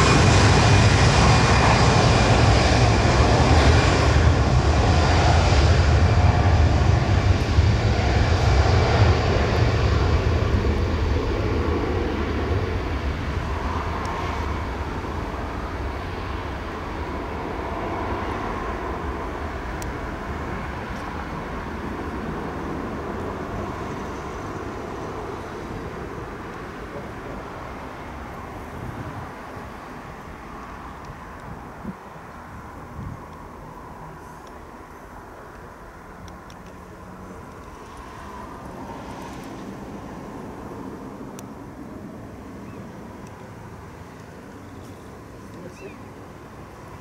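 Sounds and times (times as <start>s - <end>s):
jet engines at takeoff thrust: 0.0s - 47.0s.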